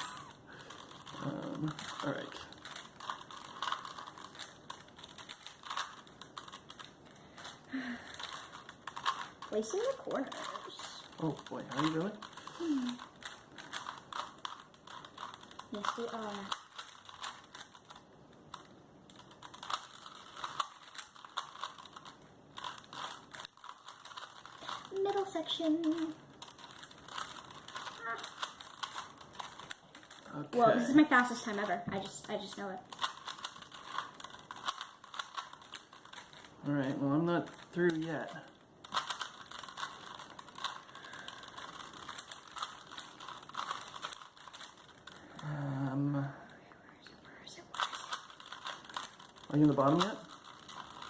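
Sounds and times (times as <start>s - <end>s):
puzzle cubes clicking: 0.0s - 46.1s, 47.7s - 51.0s.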